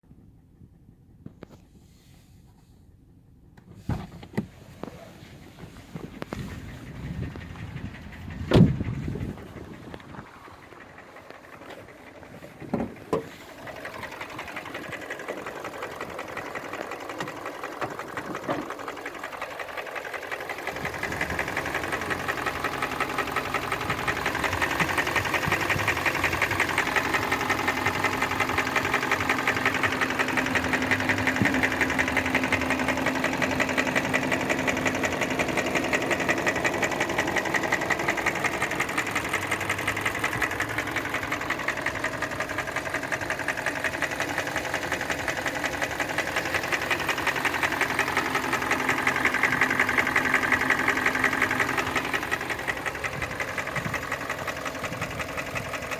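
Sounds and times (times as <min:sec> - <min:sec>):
engine knocking: 0:04.7 - 0:55.9.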